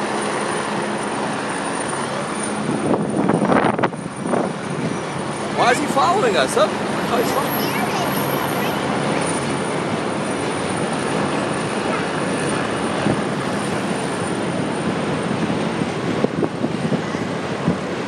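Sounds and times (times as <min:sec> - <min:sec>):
helicopter hovering: 0:00.0 - 0:18.0.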